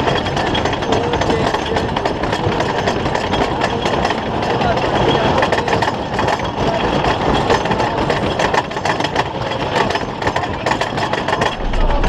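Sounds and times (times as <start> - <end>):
roller coaster rattling on wooden track: 0.0 - 12.0.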